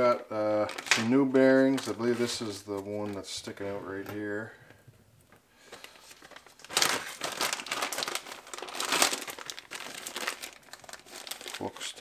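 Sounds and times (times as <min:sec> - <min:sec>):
plastic wrapping crinkling: 0:00.0 - 0:04.4, 0:05.6 - 0:12.0.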